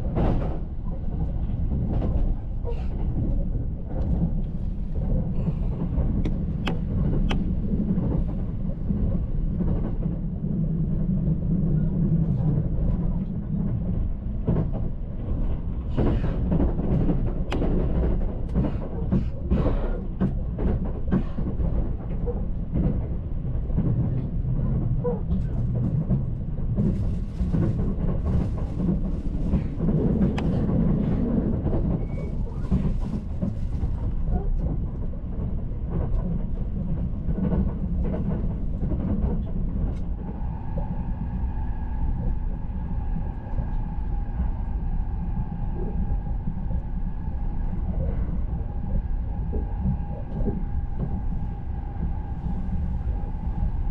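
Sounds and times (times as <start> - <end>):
train interior rumble: 0.0 - 53.9.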